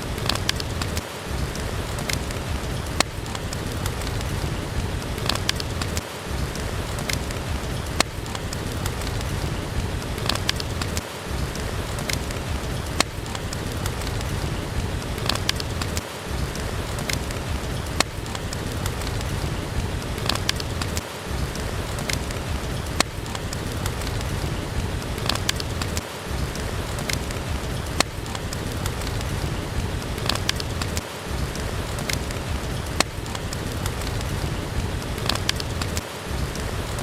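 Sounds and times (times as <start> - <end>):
steady rain with deep rumble: 0.0 - 37.0
wood fire crackling: 0.0 - 37.0.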